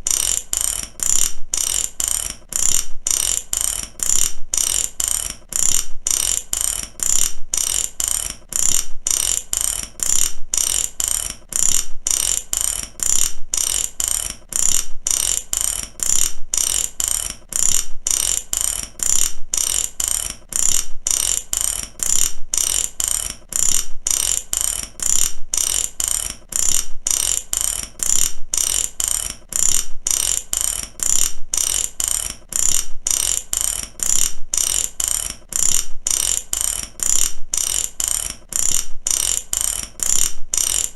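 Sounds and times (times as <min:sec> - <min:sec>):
mechanical ratchet clicking: 0:00.0 - 0:40.9.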